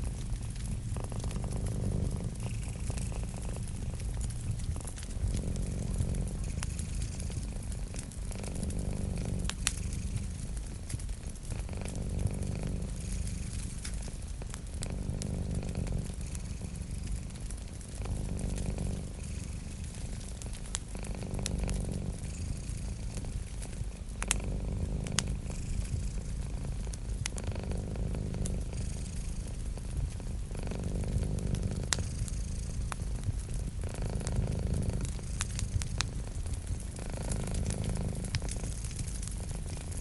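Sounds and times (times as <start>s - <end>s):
cat purring: 0.0s - 40.0s
wood fire crackling: 0.0s - 40.0s.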